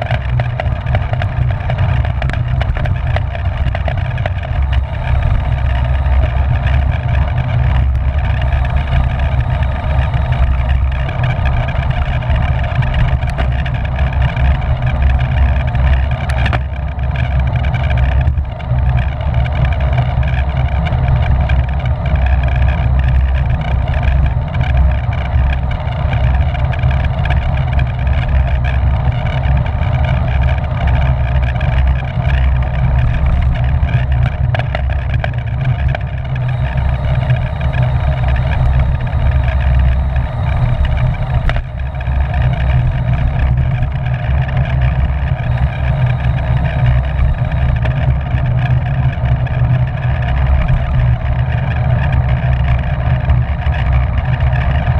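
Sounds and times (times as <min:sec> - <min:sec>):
steady high hum: 0:00.0 - 0:54.9
wind buffeting microphone: 0:00.0 - 0:54.9.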